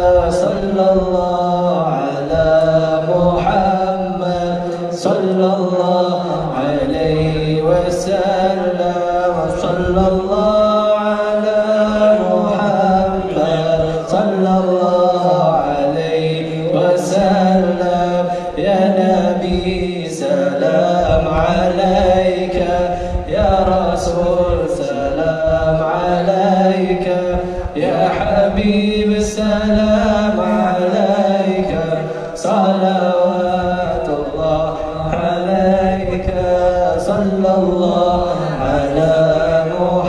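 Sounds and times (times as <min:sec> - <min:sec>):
men chanting a devotional song: 0:00.0 - 0:40.0.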